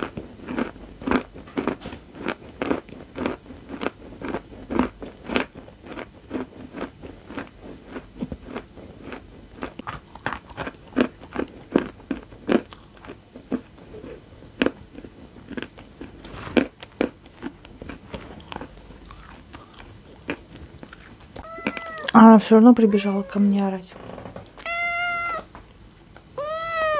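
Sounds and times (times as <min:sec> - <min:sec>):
chewing crunchy chalk: 0:00.0 - 0:22.2.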